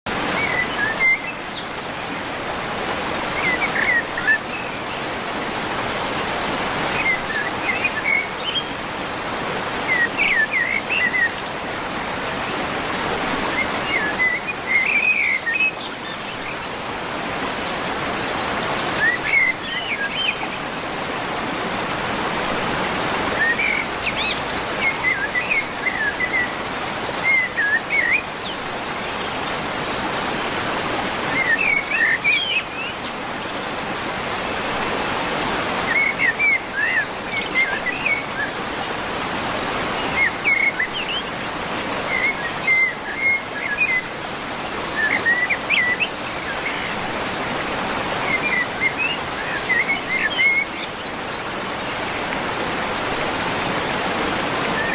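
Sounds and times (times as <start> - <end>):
running water: 0.1 - 54.9.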